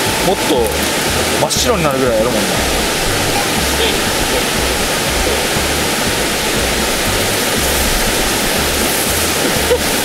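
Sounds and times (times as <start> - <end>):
music with slow bass line: 0.0 - 10.0
steady rushing noise: 0.0 - 10.0.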